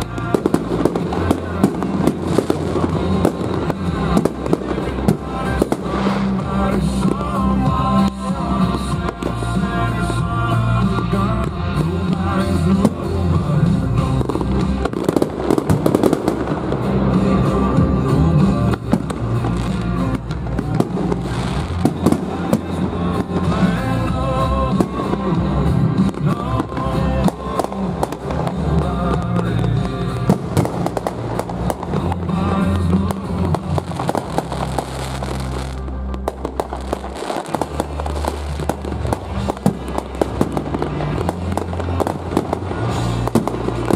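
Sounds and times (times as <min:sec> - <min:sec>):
fireworks bangs and crackling: 0:00.0 - 0:43.9
music with steady bass line: 0:00.0 - 0:43.9.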